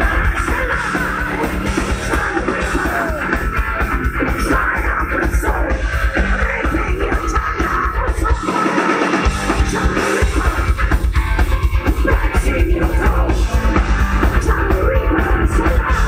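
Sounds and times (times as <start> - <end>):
distorted electric guitars: 0.0 - 16.0
rapid bass drum beats: 0.0 - 16.0.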